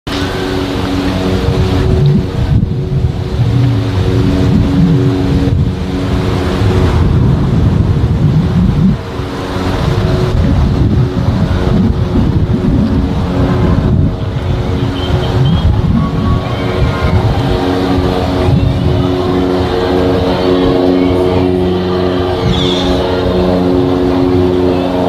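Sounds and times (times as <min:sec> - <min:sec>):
propeller plane passing overhead: 0:00.1 - 0:25.0
wind rumble on microphone: 0:00.1 - 0:25.0.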